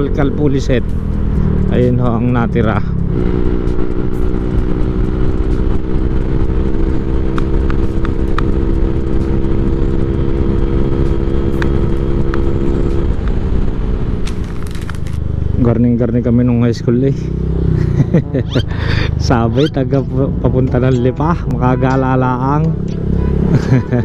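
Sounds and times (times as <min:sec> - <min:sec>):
scooter engine cruising: 0:00.0 - 0:24.0.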